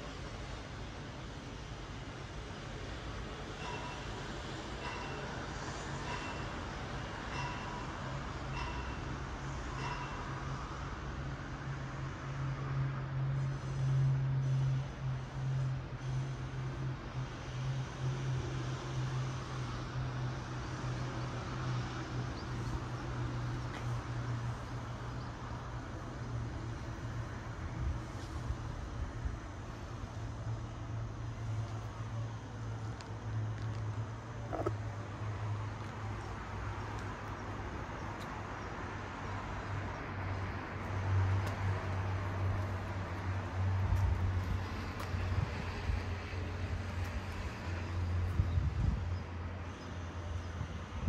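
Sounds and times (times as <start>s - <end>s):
outdoor background rush: 0.0s - 51.0s.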